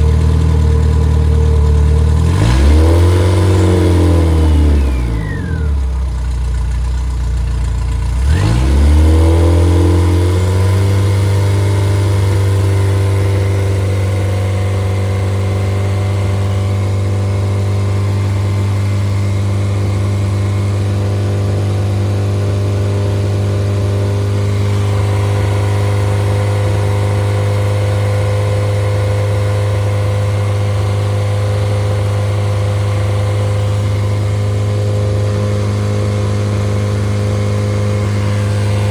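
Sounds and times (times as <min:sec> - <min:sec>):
car engine revving and running: 0:00.0 - 0:38.9.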